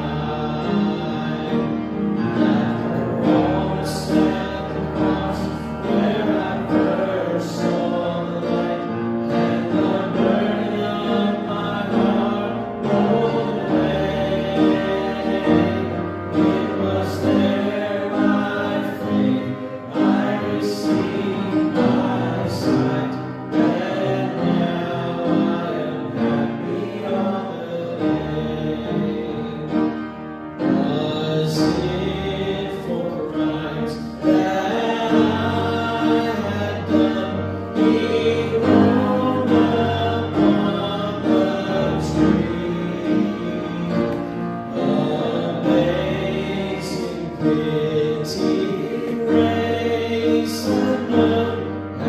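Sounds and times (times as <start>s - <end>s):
voices singing a hymn: 0.0s - 52.0s.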